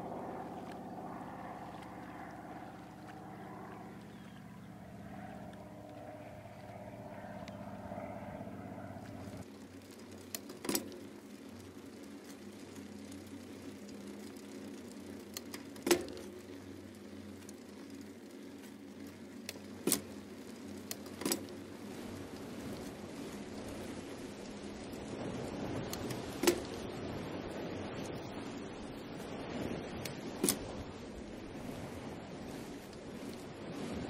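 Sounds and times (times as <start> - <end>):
bicycle rolling rumble: 0.0 - 34.0.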